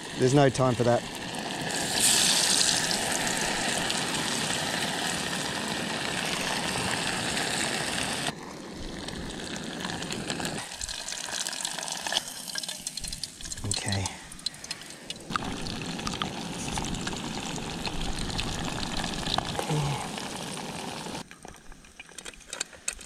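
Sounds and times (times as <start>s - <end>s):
fish sizzling in hot oil: 0.0s - 21.3s.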